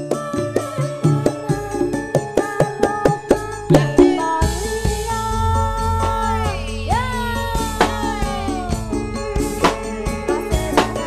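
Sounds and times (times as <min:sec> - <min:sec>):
live band playing upbeat song: 0:00.0 - 0:11.0
steady drum beat: 0:00.0 - 0:11.0.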